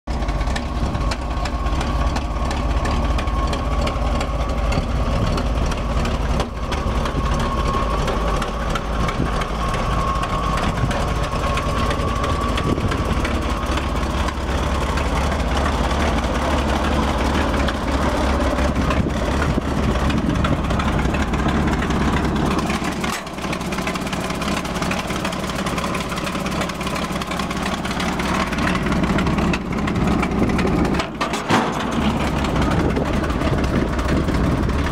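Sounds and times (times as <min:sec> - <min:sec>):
truck engine idling: 0:00.1 - 0:34.9.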